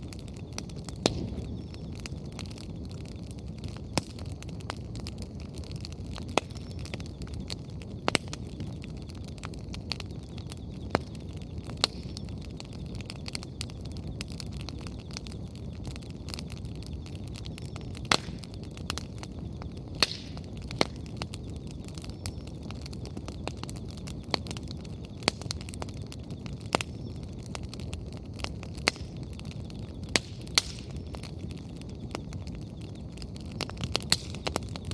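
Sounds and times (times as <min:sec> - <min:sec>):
bonfire crackling and popping: 0:00.0 - 0:34.9.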